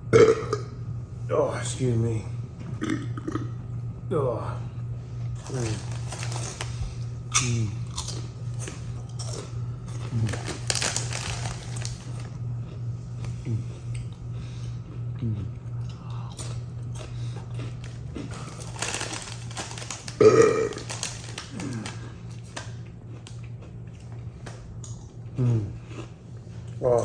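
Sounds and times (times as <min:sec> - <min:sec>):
steady low hum: 0:00.0 - 0:27.0
person chewing crunchy food: 0:05.3 - 0:27.0.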